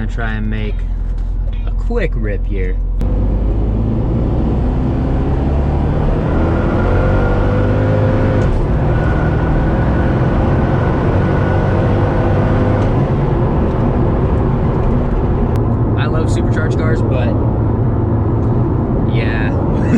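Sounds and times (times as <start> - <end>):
car engine accelerating: 2.6 - 19.9.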